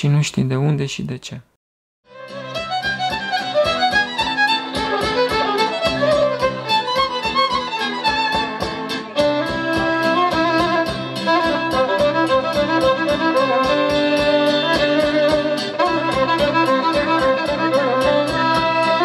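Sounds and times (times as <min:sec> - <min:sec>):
instrumental background music: 0:02.1 - 0:19.0.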